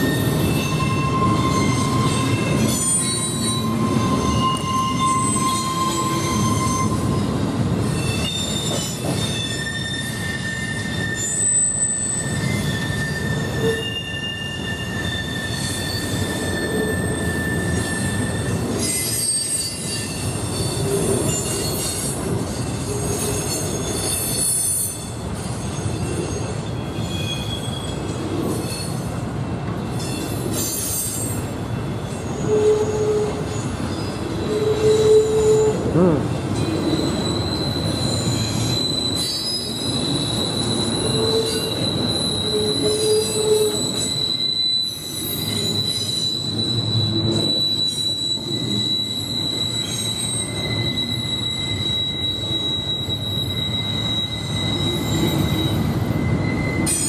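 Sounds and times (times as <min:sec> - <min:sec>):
high wheel squeals: 0:00.0 - 0:29.2, 0:29.9 - 0:57.0
train wheels rumbling on rail: 0:00.0 - 0:57.0.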